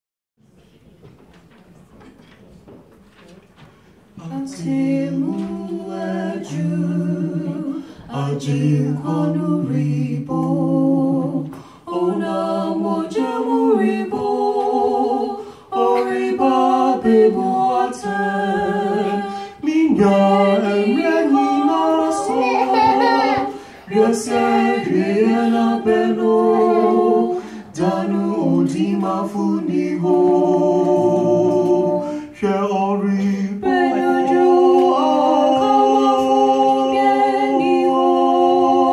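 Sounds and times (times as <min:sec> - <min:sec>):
man and woman singing duet: 0:04.2 - 0:38.9.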